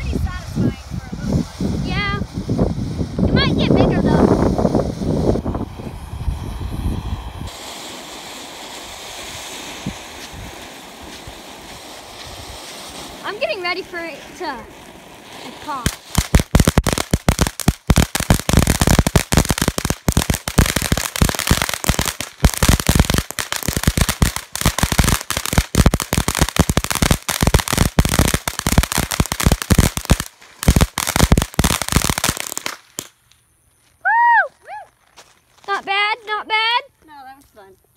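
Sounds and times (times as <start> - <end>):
firework crackling pops: 0.0 - 34.3.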